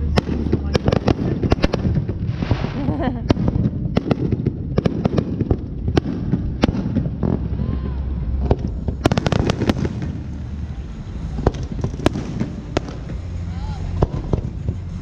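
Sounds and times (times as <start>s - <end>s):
fireworks bangs and cracks: 0.0s - 15.0s
fireworks crackling: 0.0s - 15.0s
low rumble: 0.0s - 15.0s.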